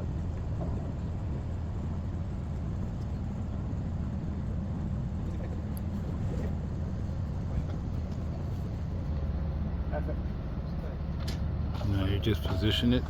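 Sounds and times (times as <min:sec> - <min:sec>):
crane engine rumble: 0:00.0 - 0:13.0.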